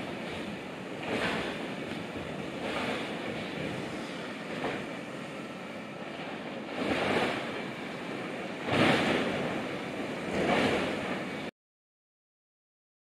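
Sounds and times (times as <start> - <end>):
wind blowing in gusts: 0.0 - 11.5.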